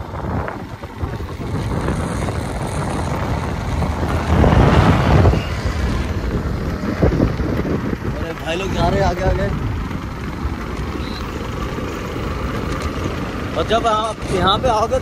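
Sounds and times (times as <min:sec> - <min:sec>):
wind rushing over microphone: 0:00.0 - 0:13.5
motorcycle engine and tyres: 0:00.0 - 0:15.0.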